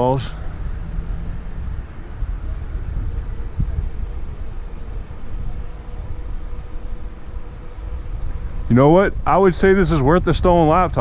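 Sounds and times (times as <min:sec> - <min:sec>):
bike tyre rumble on rough road: 0:00.0 - 0:11.0
wind buffeting microphone: 0:00.0 - 0:11.0.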